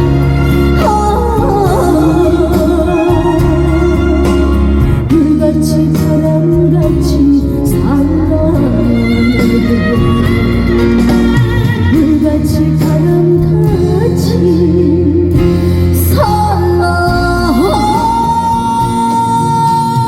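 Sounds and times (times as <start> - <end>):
band backing track with bass: 0.0 - 20.0
woman singing with vibrato: 0.0 - 20.0.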